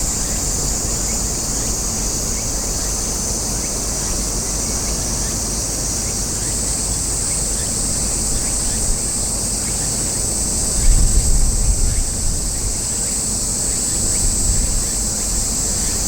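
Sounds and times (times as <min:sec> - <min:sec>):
cicadas buzzing in chorus: 0:00.0 - 0:16.0.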